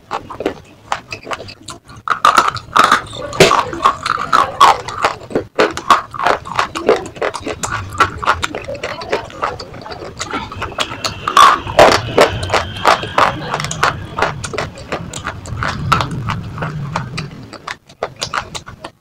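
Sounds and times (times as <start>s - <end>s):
crunching brittle slate: 0.1s - 19.0s.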